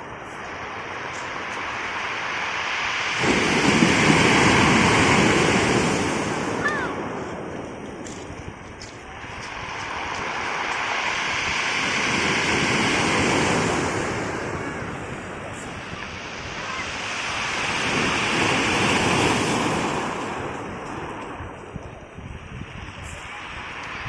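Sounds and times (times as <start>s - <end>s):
waves breaking on pebble beach: 0.0s - 24.0s.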